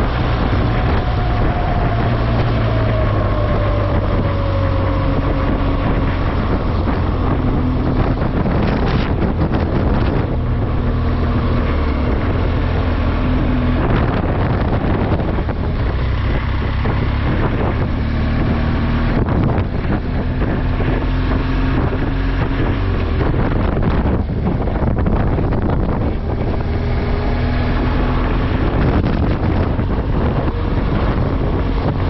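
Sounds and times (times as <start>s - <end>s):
vehicle engine running: 0.0s - 32.0s
wind noise on microphone: 0.0s - 32.0s.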